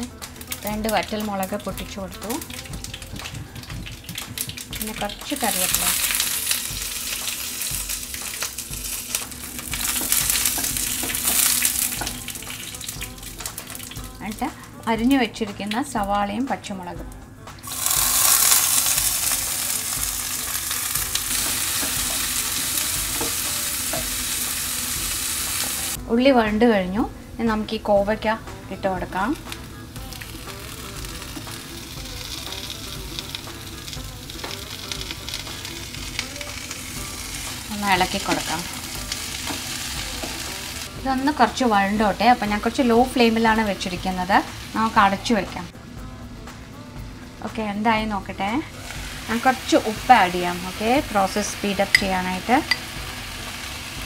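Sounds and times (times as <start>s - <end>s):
spices sizzling and spitting in oil: 0.0s - 14.9s, 17.6s - 26.0s, 28.8s - 45.7s, 48.7s - 54.0s.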